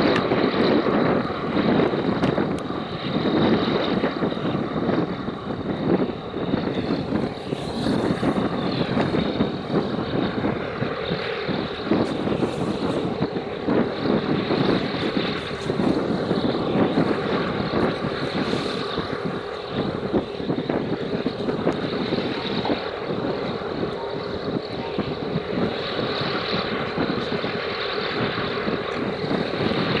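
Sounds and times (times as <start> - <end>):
low engine drone: 0.0 - 30.0
wind buffeting microphone: 0.0 - 30.0.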